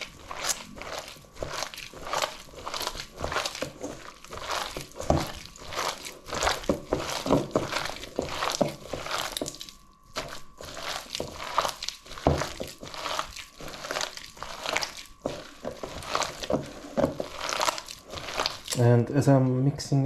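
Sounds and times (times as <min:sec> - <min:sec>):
batter squelching and crunching: 0:00.0 - 0:20.0.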